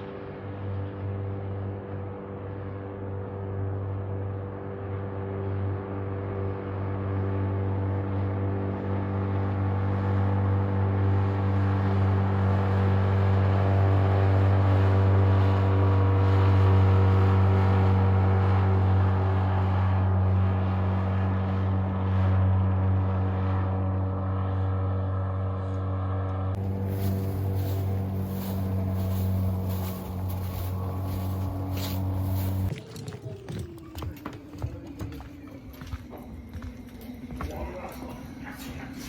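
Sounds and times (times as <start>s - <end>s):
outboard motor drone: 0.0s - 32.7s.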